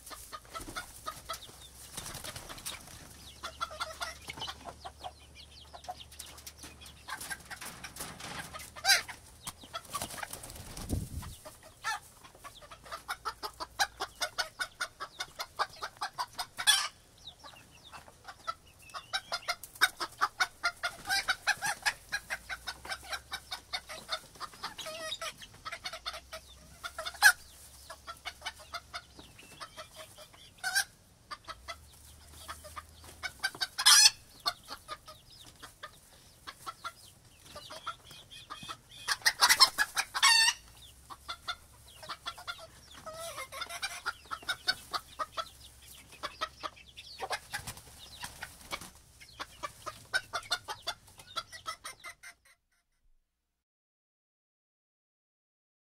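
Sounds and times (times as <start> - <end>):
chickens clucking: 0.0 - 52.8.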